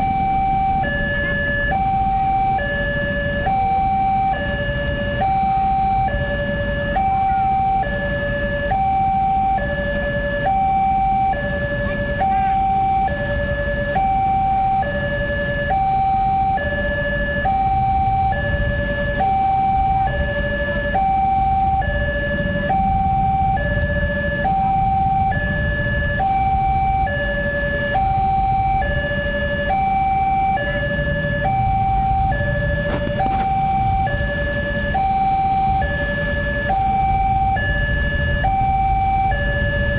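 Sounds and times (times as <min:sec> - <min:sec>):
low traffic rumble: 0:00.0 - 0:39.9
two-tone crossing alarm: 0:00.0 - 0:39.9.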